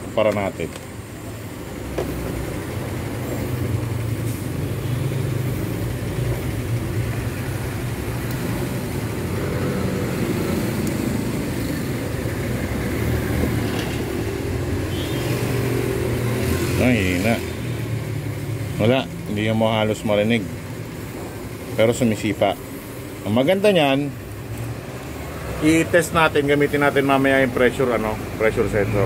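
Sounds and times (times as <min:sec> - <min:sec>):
electric fuel pump humming: 0:00.5 - 0:28.9.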